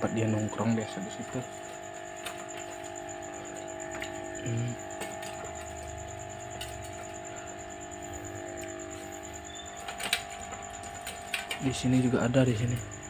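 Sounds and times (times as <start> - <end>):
faint high whine: 0.0 - 13.0
steady hum: 0.0 - 13.0.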